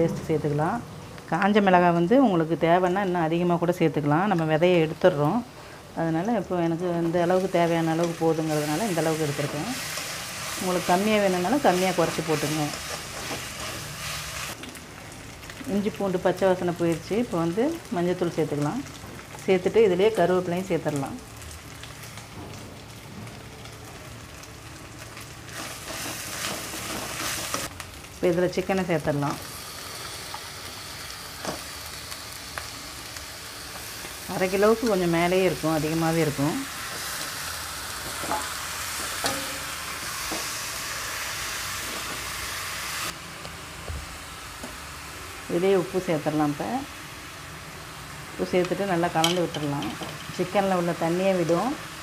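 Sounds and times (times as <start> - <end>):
food sizzling in hot oil: 6.2 - 52.0.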